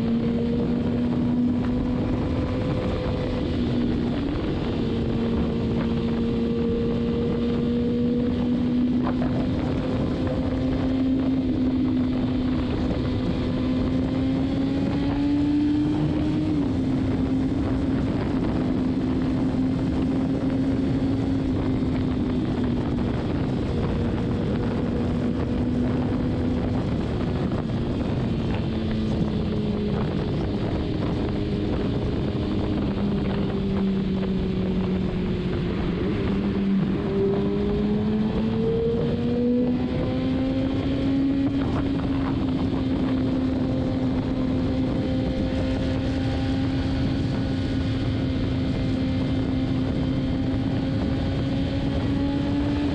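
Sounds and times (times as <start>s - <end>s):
motorcycle engine cruising: 0.0s - 52.9s
wind noise on microphone: 0.0s - 52.9s.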